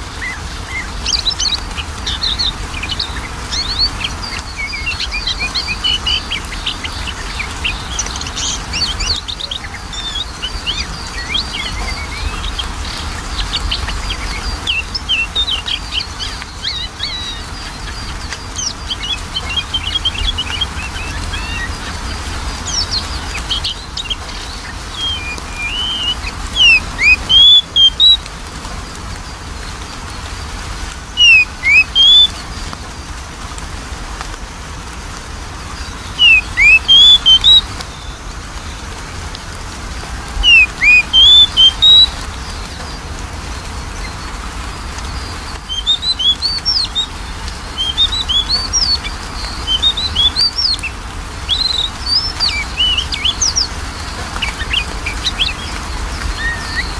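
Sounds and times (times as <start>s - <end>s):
bird song whistled phrases: 0.1s - 28.2s, 31.1s - 32.4s, 35.8s - 38.2s, 40.1s - 42.9s, 45.1s - 56.9s.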